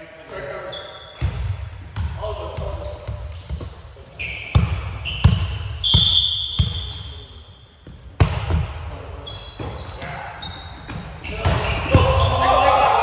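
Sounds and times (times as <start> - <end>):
sneakers squeaking on floor: 0.2 - 13.0.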